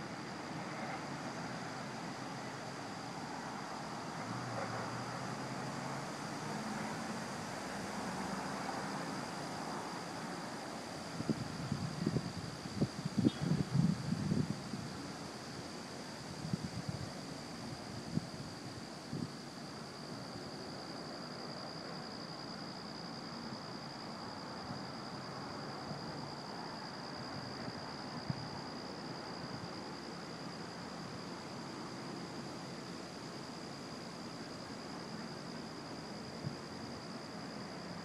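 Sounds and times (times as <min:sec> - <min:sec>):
insect drone: 0:00.0 - 0:38.0
low hiss: 0:00.0 - 0:38.0.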